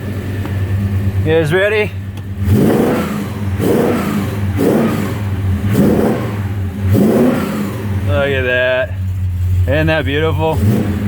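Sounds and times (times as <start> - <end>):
car engine revving in blips: 0.0 - 11.0.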